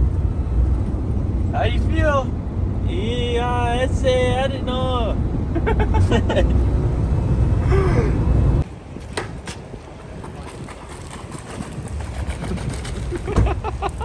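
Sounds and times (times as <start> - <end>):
road and engine rumble in van: 0.0 - 14.0.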